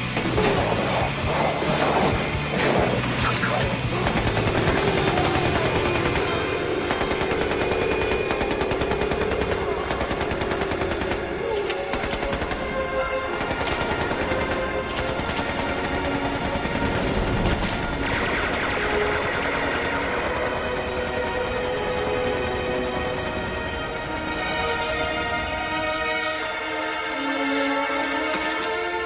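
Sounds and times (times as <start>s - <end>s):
rapid machine gun fire: 0.0s - 23.3s
music: 0.0s - 29.0s.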